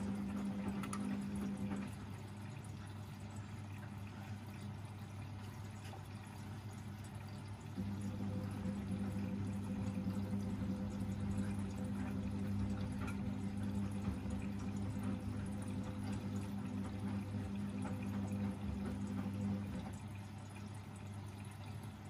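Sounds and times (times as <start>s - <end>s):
washing machine hum: 0.0s - 22.0s
water pouring and splashing: 0.0s - 22.0s.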